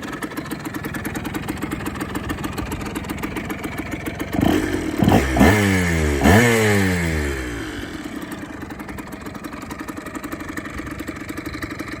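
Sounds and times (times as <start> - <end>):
two-stroke engine revving and idling: 0.0 - 12.0.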